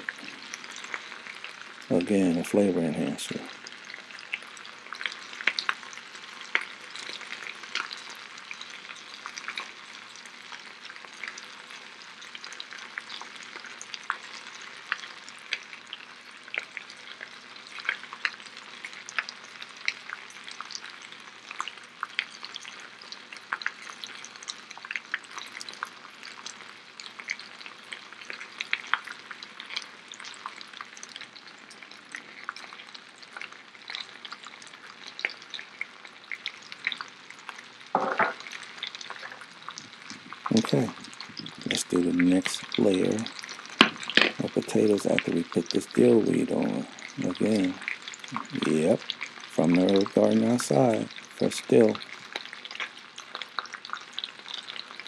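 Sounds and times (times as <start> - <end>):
potato slices sizzling in skillets: 0.0 - 55.0.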